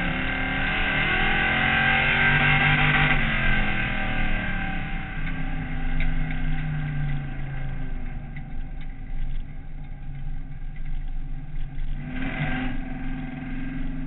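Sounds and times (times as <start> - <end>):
race car engine from inside: 0.0 - 14.0.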